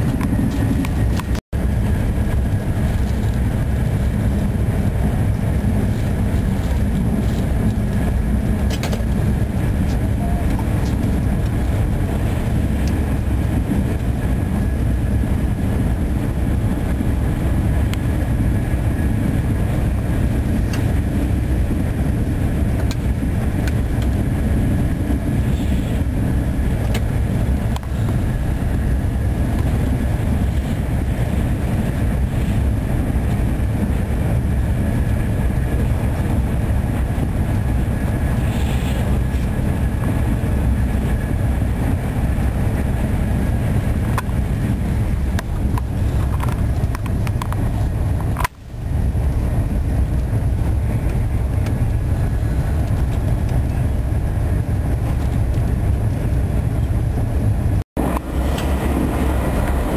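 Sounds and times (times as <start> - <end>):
train rumbling at speed: 0.0 - 59.9.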